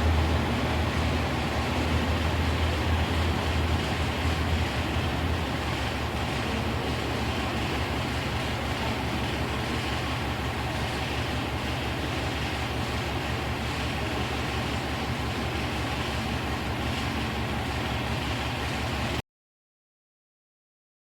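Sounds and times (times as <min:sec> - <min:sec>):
train rumbling: 0:00.0 - 0:19.2.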